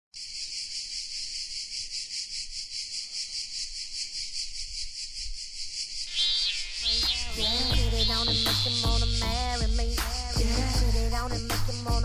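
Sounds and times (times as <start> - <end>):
insects chirring: 0.2 - 12.0.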